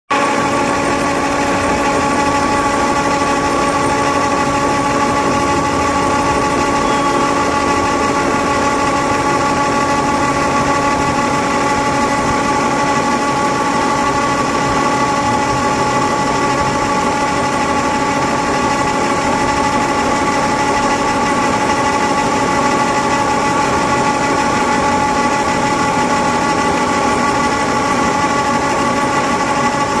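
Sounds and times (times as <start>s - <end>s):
milling machine running: 0.1s - 30.0s.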